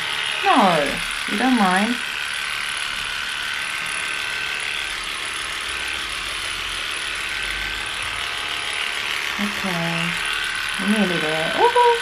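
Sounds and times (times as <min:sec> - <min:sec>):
electric clippers running: 0:00.0 - 0:12.0.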